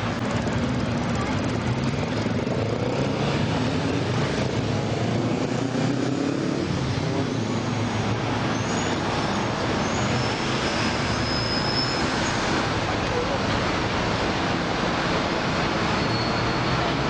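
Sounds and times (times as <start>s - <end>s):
heavy road traffic: 0.0s - 17.0s.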